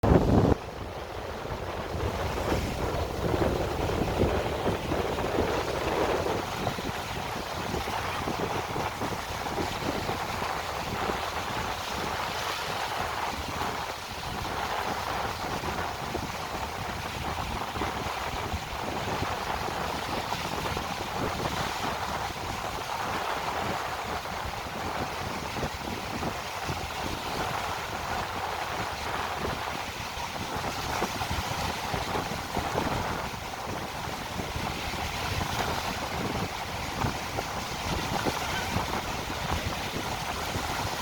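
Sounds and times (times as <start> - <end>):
sea waves washing in: 0.0 - 41.0
wind buffeting microphone: 0.0 - 41.0.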